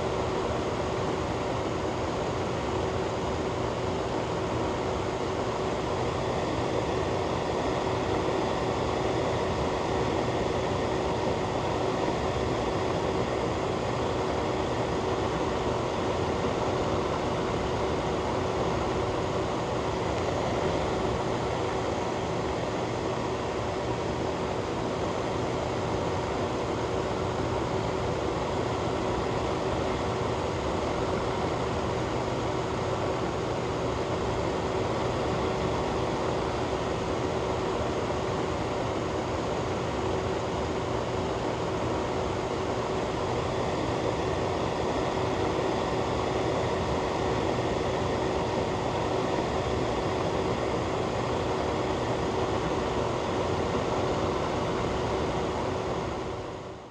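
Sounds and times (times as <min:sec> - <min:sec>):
ventilation fan running: 0:00.0 - 0:56.9.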